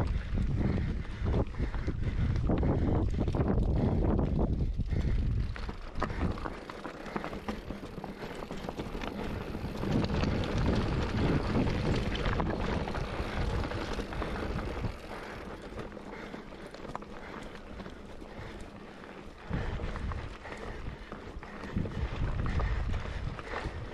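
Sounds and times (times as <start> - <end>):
wind buffeting microphone: 0.0 - 16.3, 19.4 - 23.9
bike rattling over bumps: 0.0 - 23.9
bike tyres crunching over stones: 0.0 - 23.9.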